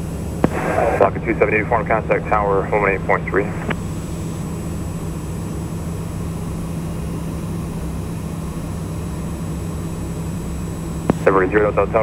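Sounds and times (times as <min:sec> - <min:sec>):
turboprop engine drone: 0:00.0 - 0:12.0.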